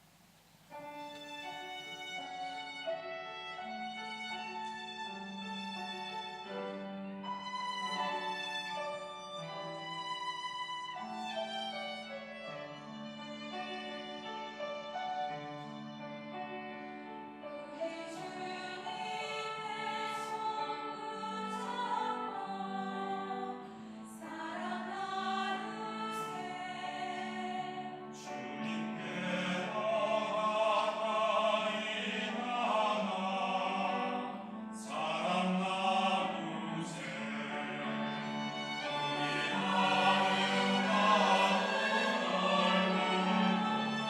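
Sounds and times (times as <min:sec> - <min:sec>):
church choir singing: 0:03.6 - 0:15.1, 0:17.3 - 0:44.0.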